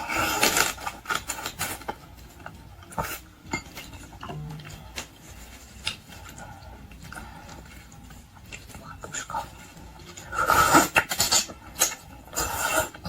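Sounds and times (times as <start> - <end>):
utensils and dishes clinking: 0.0 - 13.0.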